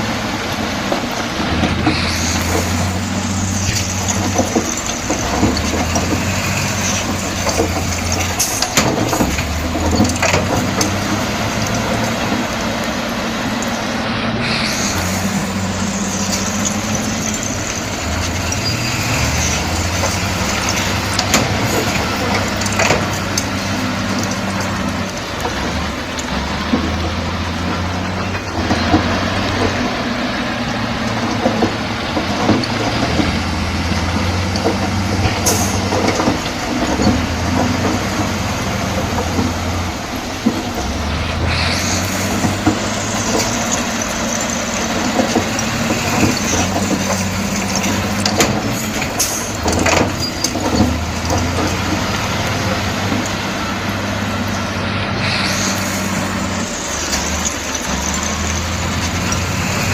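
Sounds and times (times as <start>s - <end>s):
heavy diesel machinery engine: 0.0s - 59.9s.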